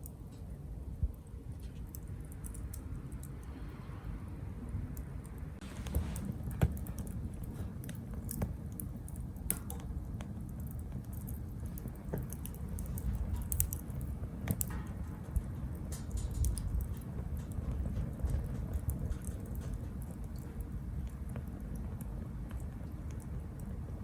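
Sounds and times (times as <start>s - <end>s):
small wood fire crackling: 0.0s - 24.0s.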